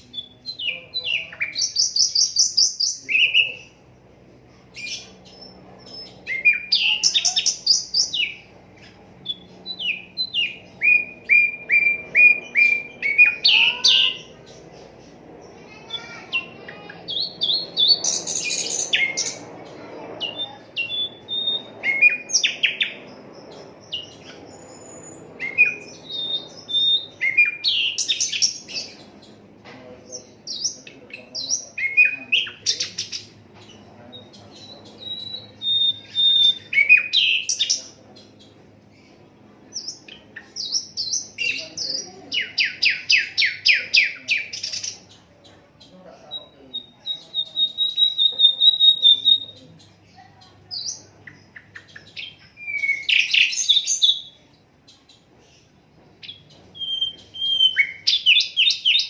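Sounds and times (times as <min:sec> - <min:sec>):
flycatcher singing: 0:00.0 - 0:59.0.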